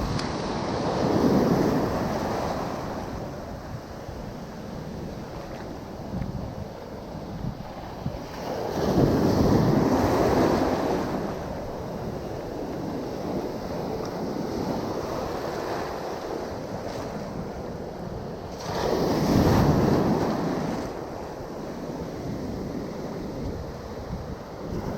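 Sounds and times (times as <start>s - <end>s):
ocean surf washing: 0.0s - 24.9s
wind on microphone: 0.0s - 24.9s.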